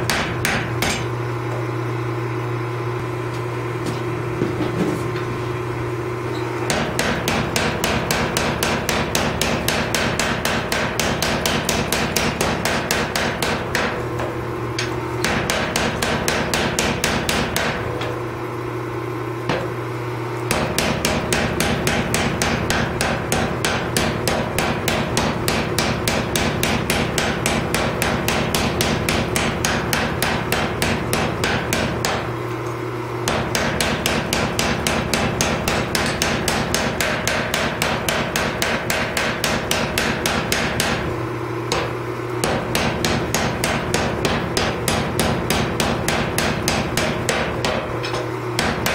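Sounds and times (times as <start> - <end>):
power hammer pounding steel: 0.0 - 1.1, 6.6 - 18.2, 20.5 - 32.4, 33.2 - 48.9.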